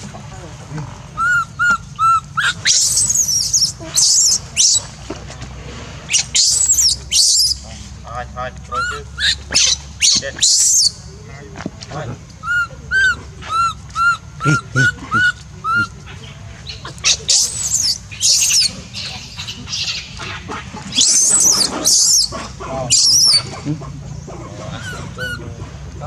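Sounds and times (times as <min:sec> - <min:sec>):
baby monkey crying: 0:01.2 - 0:04.9, 0:06.1 - 0:07.7, 0:08.7 - 0:11.1, 0:12.4 - 0:25.8.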